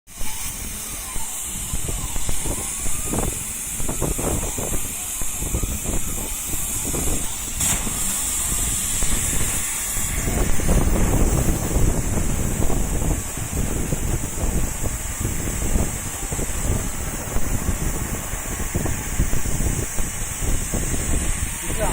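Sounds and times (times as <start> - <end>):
laser cutting machine hiss: 0.1 - 21.9
machine clatter: 0.2 - 21.0.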